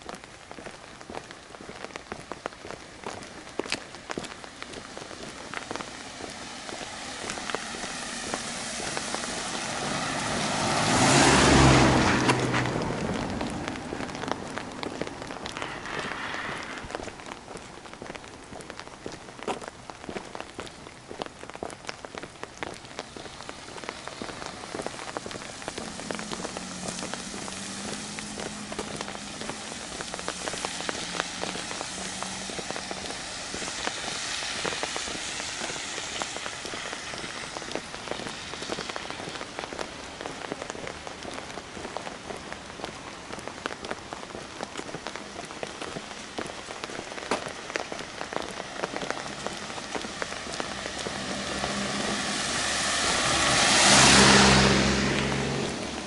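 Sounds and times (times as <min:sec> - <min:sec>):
rain-like patter: 0:00.0 - 0:56.0.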